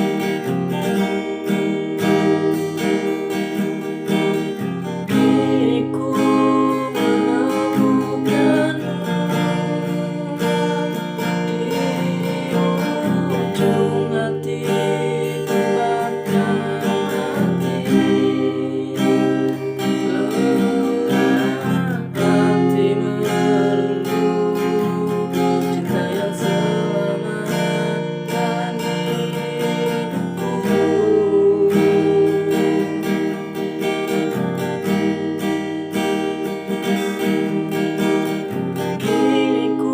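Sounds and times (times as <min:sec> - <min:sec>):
acoustic guitar strumming: 0:00.0 - 0:39.9
person singing: 0:00.0 - 0:39.9.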